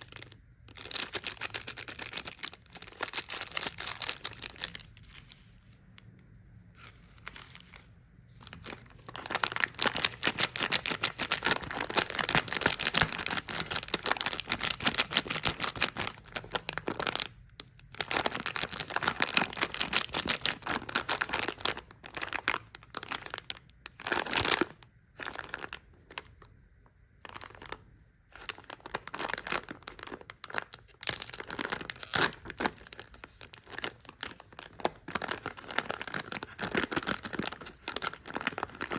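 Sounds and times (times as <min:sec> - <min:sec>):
plastic wrappers crinkling: 0:00.0 - 0:05.6, 0:06.8 - 0:26.4, 0:27.3 - 0:27.8, 0:28.4 - 0:38.9.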